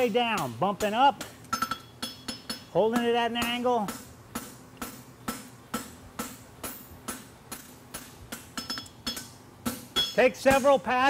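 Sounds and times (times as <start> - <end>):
hammer striking horseshoe on anvil: 0.0 - 11.0.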